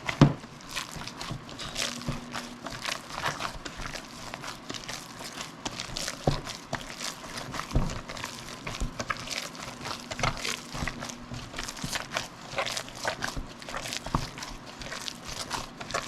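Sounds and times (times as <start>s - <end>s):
wet squishing of meat: 0.0s - 16.0s.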